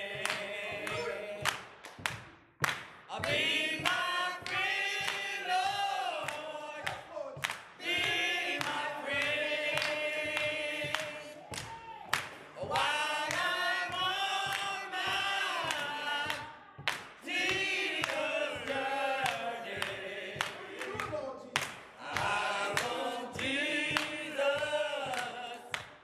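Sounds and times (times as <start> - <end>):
group singing unaccompanied: 0.0 - 26.0
hand clapping: 0.0 - 26.0.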